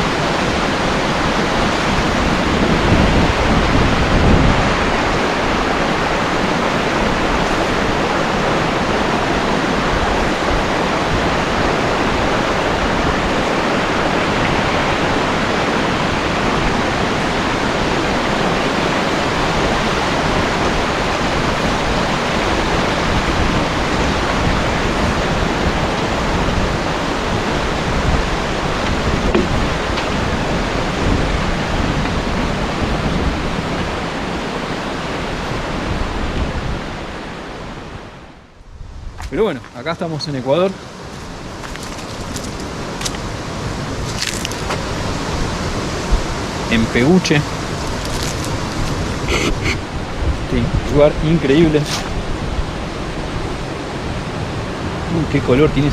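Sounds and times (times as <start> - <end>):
waterfall rushing: 0.0 - 38.2, 40.0 - 55.9.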